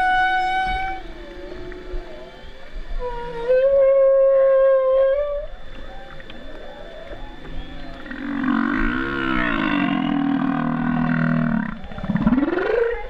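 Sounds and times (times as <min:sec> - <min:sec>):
humpback whale song: 0:00.0 - 0:13.0.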